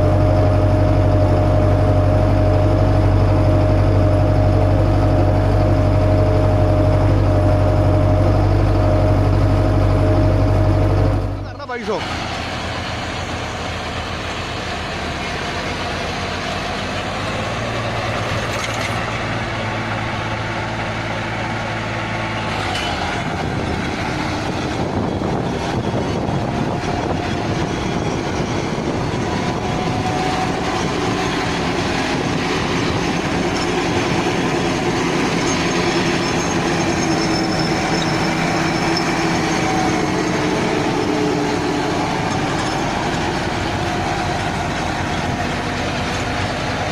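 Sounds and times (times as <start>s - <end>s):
heavy machinery engine drone: 0.0s - 46.9s.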